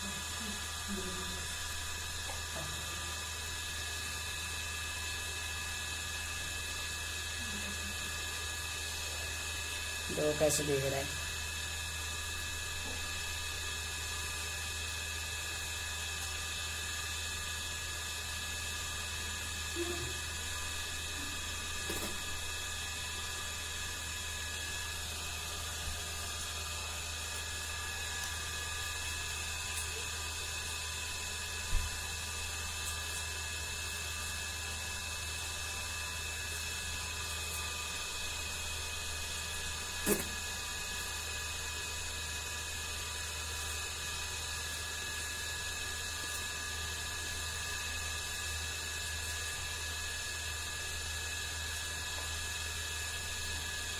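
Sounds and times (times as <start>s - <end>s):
electrical hum with high whine: 0.0s - 53.9s.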